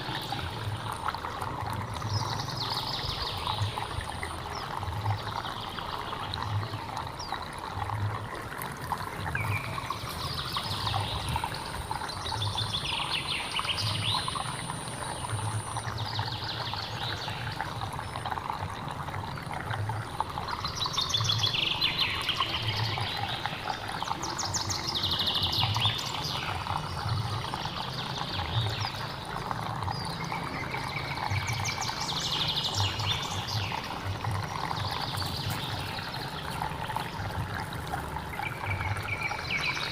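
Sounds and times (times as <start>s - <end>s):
songbird singing: 0.0s - 7.9s, 8.8s - 39.9s
stream flowing: 0.0s - 39.9s.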